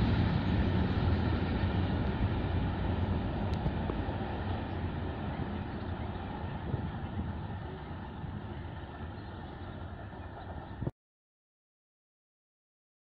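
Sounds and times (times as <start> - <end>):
freight train rumbling: 0.0 - 10.9.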